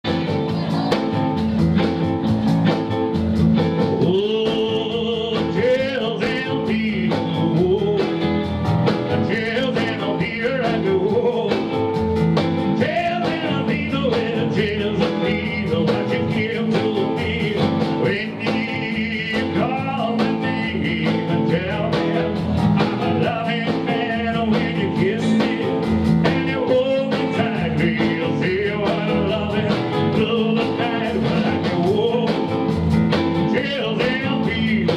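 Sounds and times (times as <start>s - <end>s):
live rockabilly band: 0.0s - 34.9s.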